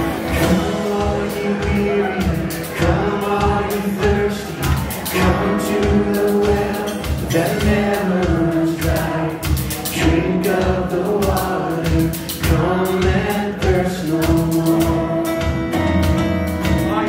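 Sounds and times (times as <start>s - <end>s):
group singing: 0.0s - 16.0s
acoustic guitar: 0.0s - 17.0s
drum kit beat: 0.0s - 17.0s
electric bass: 0.0s - 17.0s.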